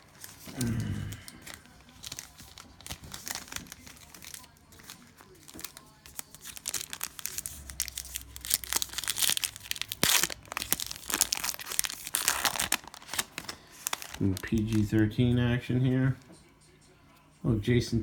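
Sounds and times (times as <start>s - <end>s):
cellophane wrapper crinkling and tearing: 0.0s - 15.3s.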